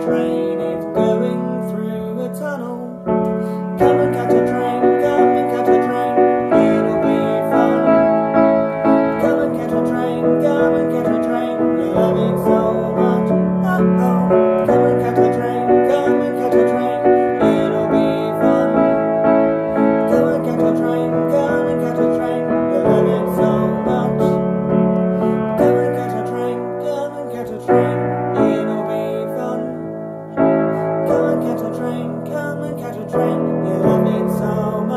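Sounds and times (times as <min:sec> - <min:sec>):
piano accompaniment: 0:00.0 - 0:34.9.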